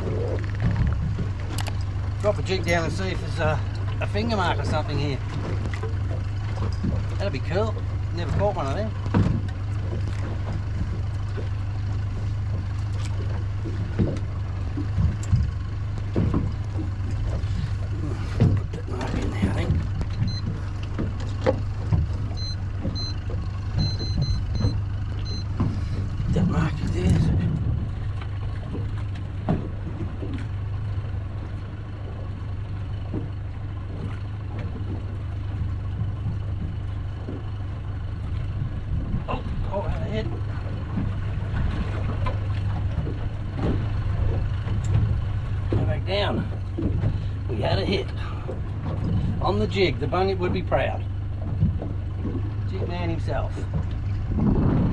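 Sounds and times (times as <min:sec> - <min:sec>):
boat engine idling: 0:00.0 - 0:54.9
light knocks and bumps: 0:00.0 - 0:54.9.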